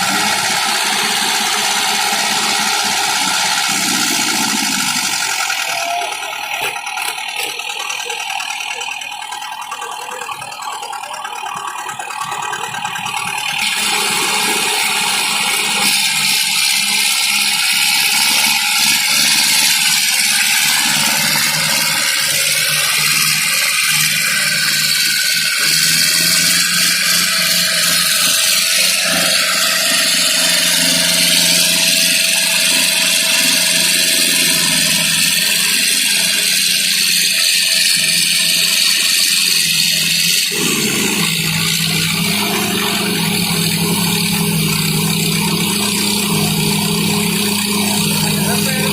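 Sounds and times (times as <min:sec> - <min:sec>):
diesel tractor engines running hard: 0:00.0 - 0:48.9.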